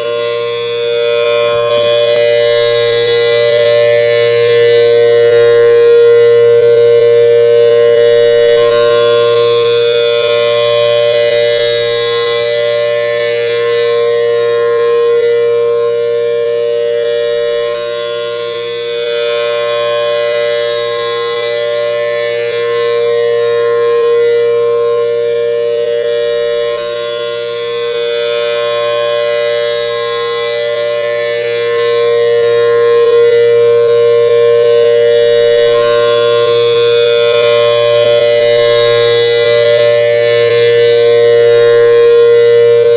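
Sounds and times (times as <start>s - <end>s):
tornado siren steady tone: 0.0s - 42.9s.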